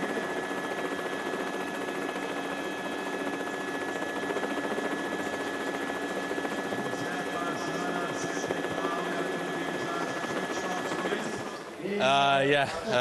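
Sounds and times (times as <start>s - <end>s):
constant high tone: 0.0s - 13.0s
helicopter hovering: 0.0s - 13.0s.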